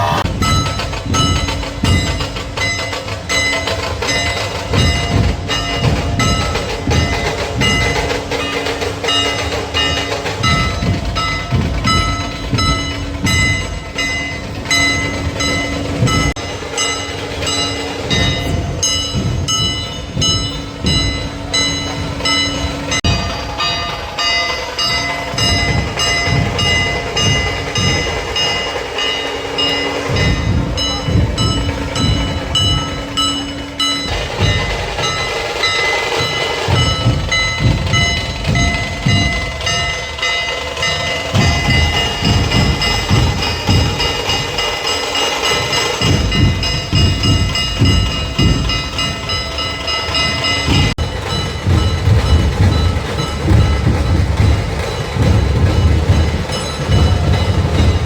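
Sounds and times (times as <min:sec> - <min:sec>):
drums playing a steady beat: 0:00.0 - 0:58.0
ringing metallic strikes: 0:00.0 - 0:58.0.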